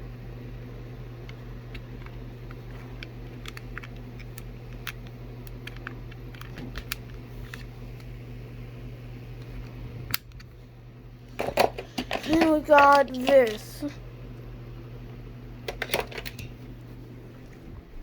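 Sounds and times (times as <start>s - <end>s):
electric fan motors humming: 0.0s - 18.0s.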